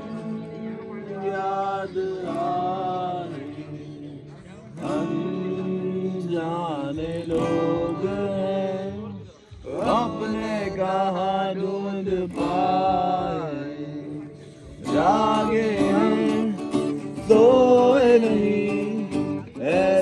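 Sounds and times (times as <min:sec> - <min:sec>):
acoustic guitar: 0:00.0 - 0:20.0
person singing: 0:00.0 - 0:20.0.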